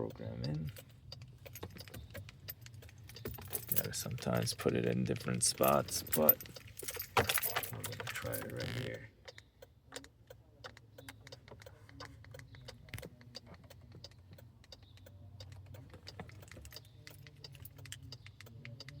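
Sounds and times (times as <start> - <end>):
car key fob clicking and rattling: 0.7 - 19.0.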